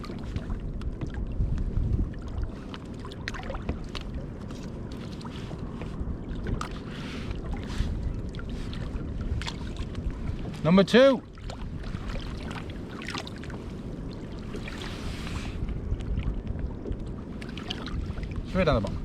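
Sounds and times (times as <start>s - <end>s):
water lapping against kayak: 0.0s - 19.0s
wind buffeting microphone: 0.0s - 19.0s.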